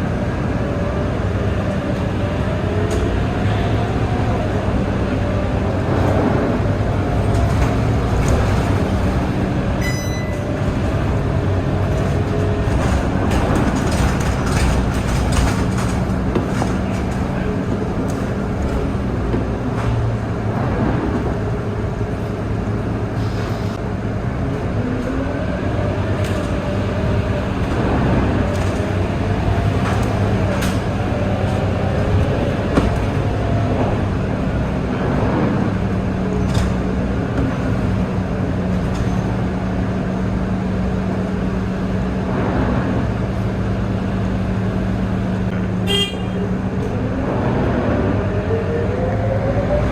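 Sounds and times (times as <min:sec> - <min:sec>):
bus engine humming: 0:00.0 - 0:49.9.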